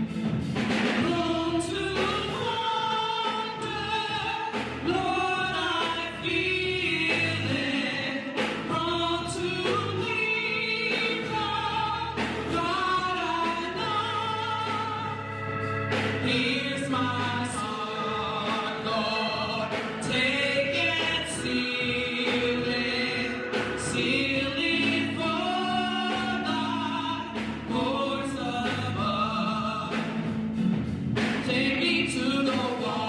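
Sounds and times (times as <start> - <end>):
gospel hymn singing: 0.0 - 33.0
instrumental accompaniment: 0.0 - 33.0.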